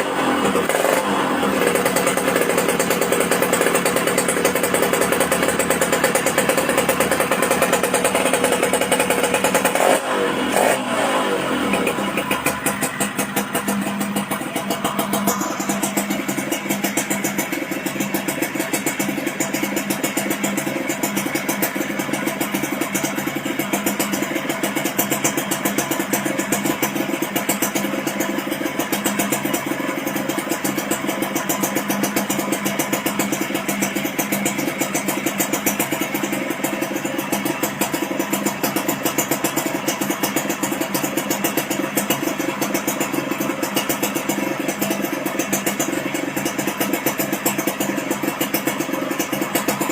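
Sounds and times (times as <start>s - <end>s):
two-stroke motorcycle idling: 0.0s - 49.9s.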